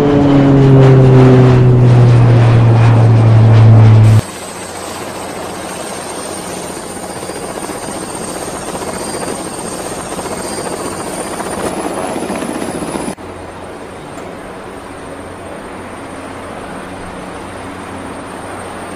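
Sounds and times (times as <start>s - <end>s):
helicopter rotor whirring: 0.0s - 18.9s.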